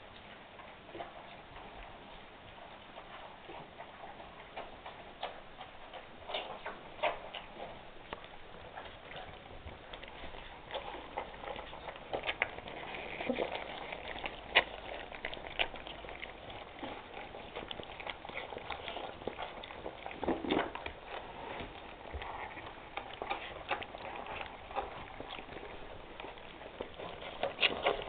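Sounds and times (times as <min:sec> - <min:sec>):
puppies eating and lapping: 0:00.0 - 0:28.0.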